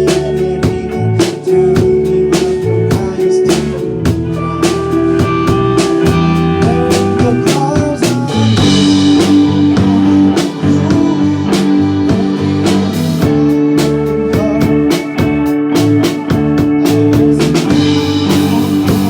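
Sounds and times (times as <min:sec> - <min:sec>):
rock band music: 0:00.0 - 0:19.0.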